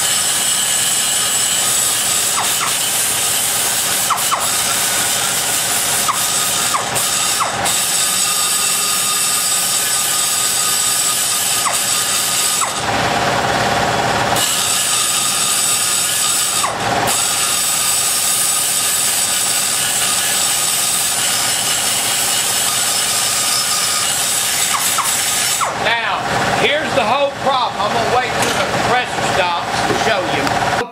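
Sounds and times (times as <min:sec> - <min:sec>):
die grinder cutting metal: 0:00.0 - 0:30.8.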